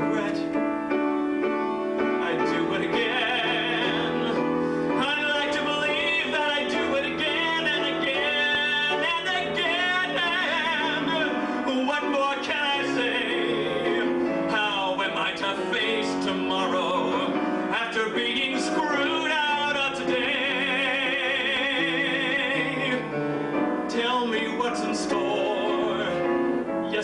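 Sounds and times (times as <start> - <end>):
man singing a ballad: 0.0 - 27.0
piano accompaniment: 0.0 - 27.0.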